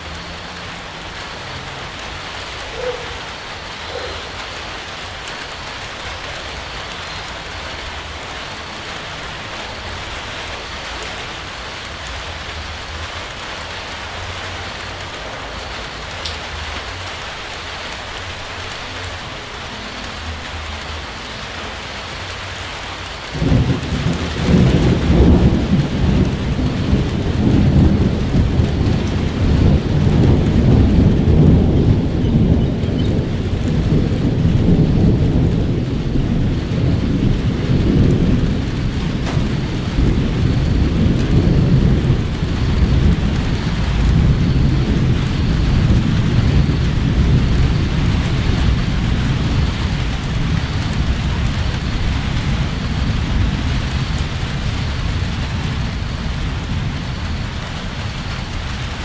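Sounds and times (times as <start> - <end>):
steady rain falling: 0.0 - 59.0
thunder rumbling: 0.0 - 59.0.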